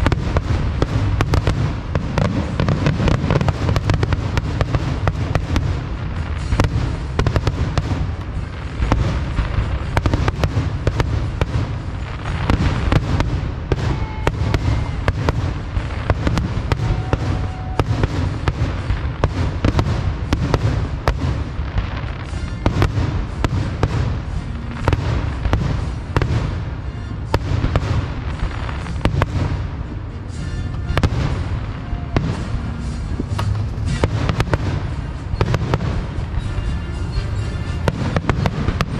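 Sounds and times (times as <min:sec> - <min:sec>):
fireworks booms and crackling: 0:00.0 - 0:38.9.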